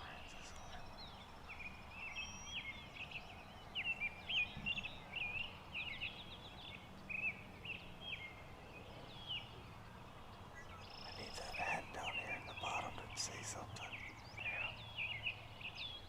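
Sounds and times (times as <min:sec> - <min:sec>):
faint background noise: 0:00.0 - 0:16.0
songbird singing: 0:00.0 - 0:16.0.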